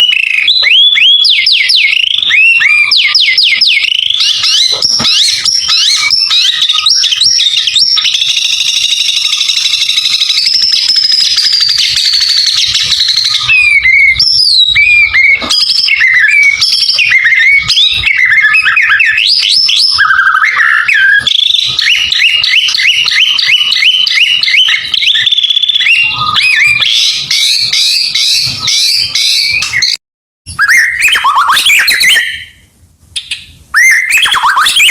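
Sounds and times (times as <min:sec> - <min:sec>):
songbird trilling and whistling: 0:00.0 - 0:32.6, 0:33.2 - 0:34.9.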